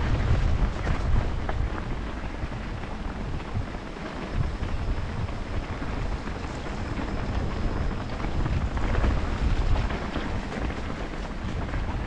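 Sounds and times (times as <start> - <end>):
motorcycle engine and road rumble: 0.0 - 12.0
wind rushing over microphone: 0.0 - 12.0.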